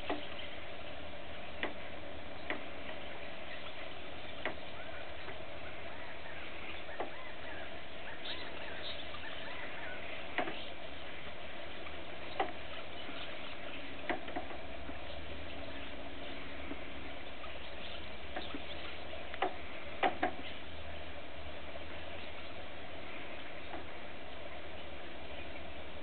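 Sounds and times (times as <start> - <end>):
low hiss and hum: 0.0 - 26.0.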